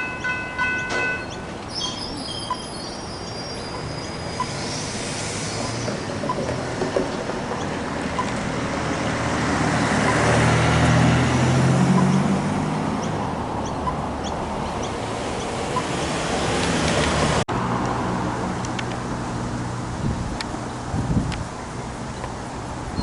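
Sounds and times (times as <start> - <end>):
vehicle humming past: 1.7 - 23.0.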